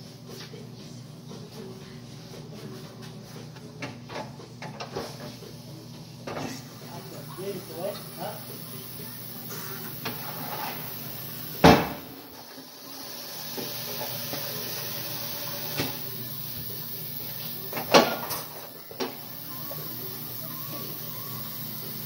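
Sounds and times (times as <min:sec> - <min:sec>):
workshop noise: 0:00.0 - 0:22.0.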